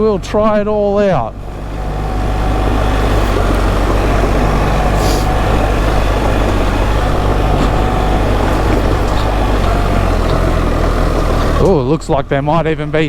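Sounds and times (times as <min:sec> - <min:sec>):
motorcycle engine running: 0:00.0 - 0:13.0
wind noise: 0:01.4 - 0:13.0.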